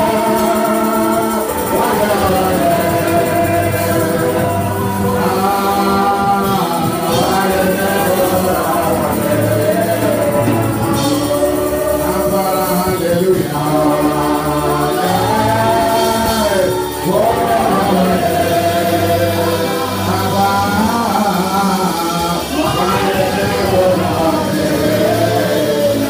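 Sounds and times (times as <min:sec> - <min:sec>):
bass notes: 0:00.0 - 0:26.0
keyboard chords: 0:00.0 - 0:26.0
lead singer singing: 0:00.0 - 0:26.0.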